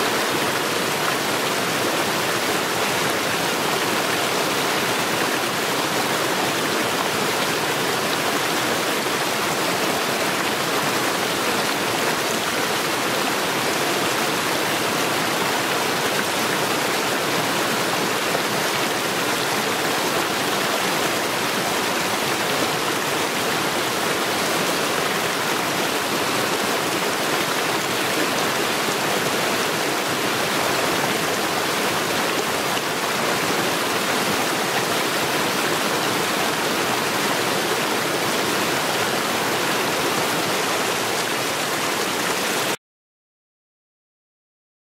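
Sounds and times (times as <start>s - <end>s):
stream rushing over stones: 0.0s - 42.8s.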